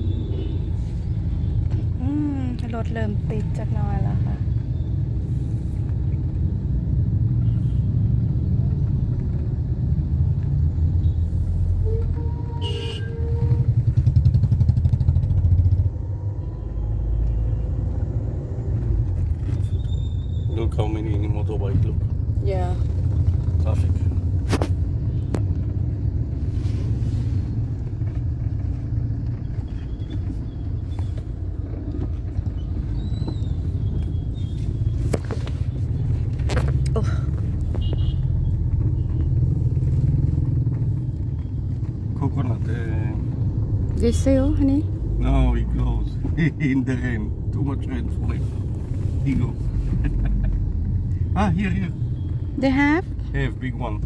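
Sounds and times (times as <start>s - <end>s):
traffic rumble of engines and tyres: 0.0s - 54.0s.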